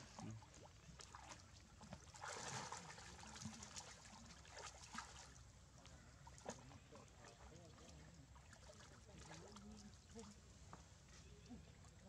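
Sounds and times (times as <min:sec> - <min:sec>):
pool water splashing: 0:00.0 - 0:10.7.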